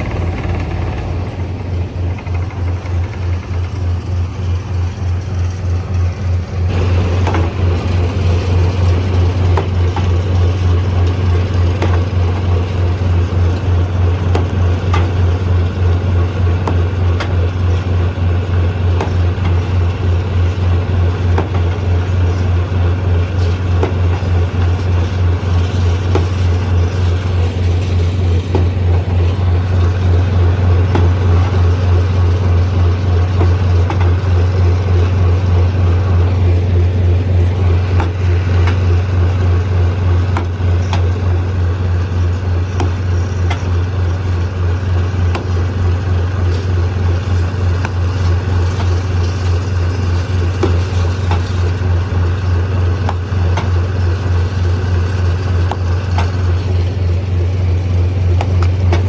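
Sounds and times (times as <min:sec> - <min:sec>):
stone crusher engine hum: 0:00.0 - 0:59.0.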